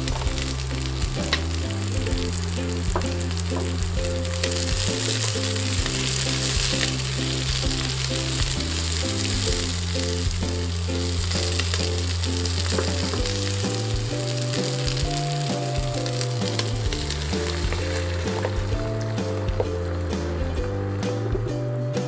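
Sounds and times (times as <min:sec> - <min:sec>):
food sizzling in a pan: 0:00.0 - 0:21.3
background music with bass: 0:00.0 - 0:22.0.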